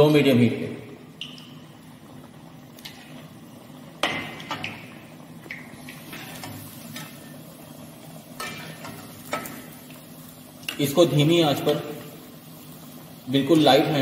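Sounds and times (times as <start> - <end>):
faint oil sizzle: 1.1 - 14.0.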